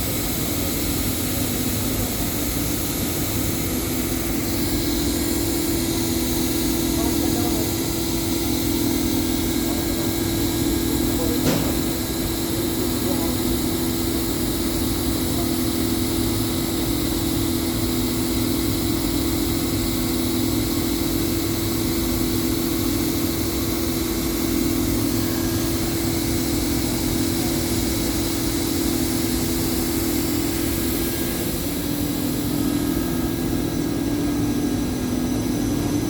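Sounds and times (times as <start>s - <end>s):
motor and blower hum: 0.0s - 36.0s.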